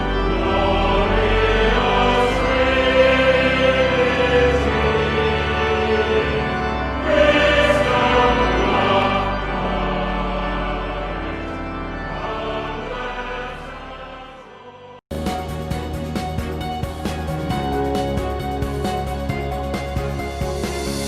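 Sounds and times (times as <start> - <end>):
choral music: 0.0 - 21.0.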